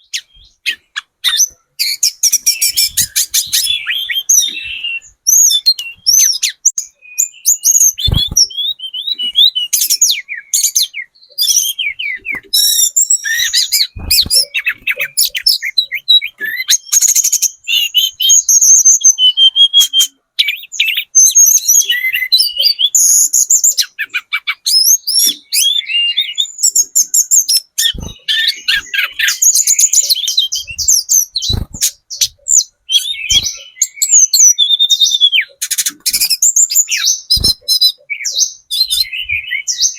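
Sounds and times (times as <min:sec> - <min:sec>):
bird twittering and trilling: 0:00.0 - 0:39.9.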